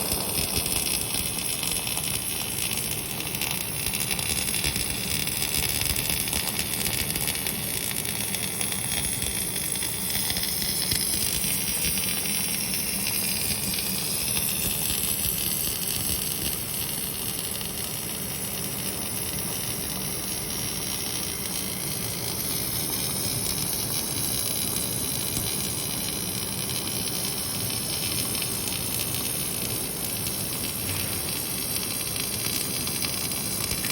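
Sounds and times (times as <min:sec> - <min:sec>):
arc welder hissing and crackling: 0:00.0 - 0:33.9.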